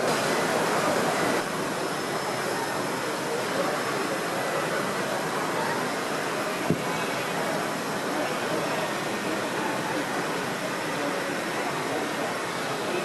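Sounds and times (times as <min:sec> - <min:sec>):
background chatter of many people: 0:00.0 - 0:13.0.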